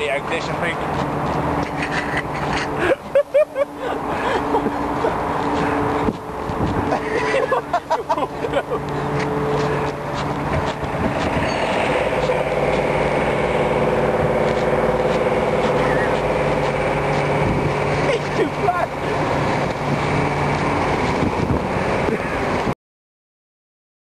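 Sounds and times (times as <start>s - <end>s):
vehicle engine running: 0.0s - 22.8s.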